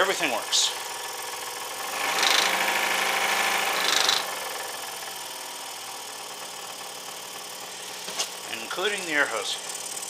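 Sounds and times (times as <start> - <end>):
scroll saw running: 0.0 - 10.0.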